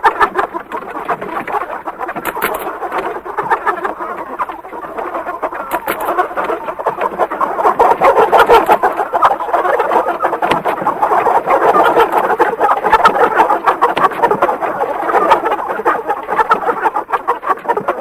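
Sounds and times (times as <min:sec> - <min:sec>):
chickens clucking and squawking: 0:00.0 - 0:18.0.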